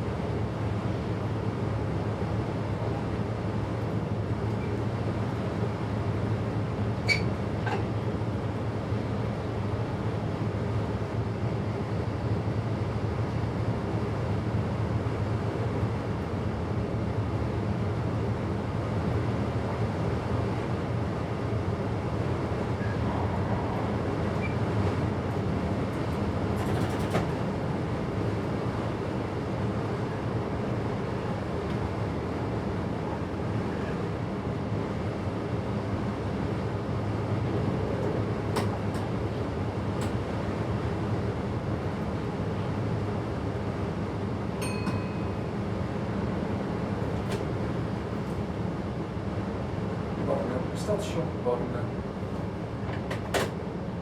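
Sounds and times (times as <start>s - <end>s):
train rumble and hum: 0.0s - 54.0s.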